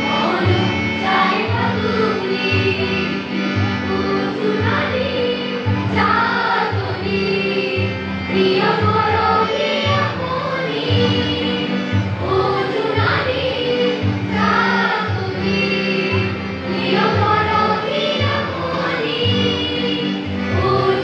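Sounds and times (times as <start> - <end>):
girls singing in unison: 0.0 - 3.2, 3.9 - 21.0
harmonium: 0.0 - 21.0.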